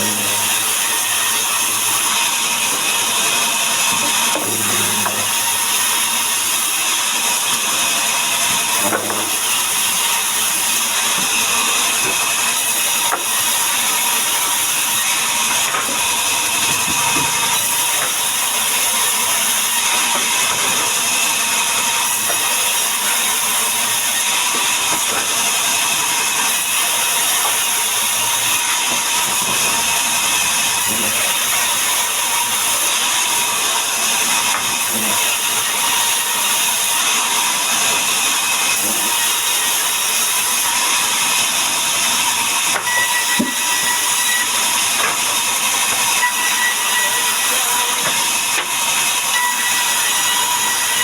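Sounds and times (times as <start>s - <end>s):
power saw cutting wood: 0.0s - 51.0s.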